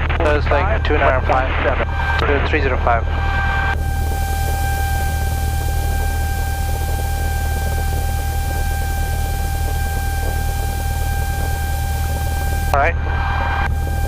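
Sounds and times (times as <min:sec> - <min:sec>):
aircraft engine idling: 0:00.0 - 0:14.0
high-pitched whine: 0:00.0 - 0:14.0.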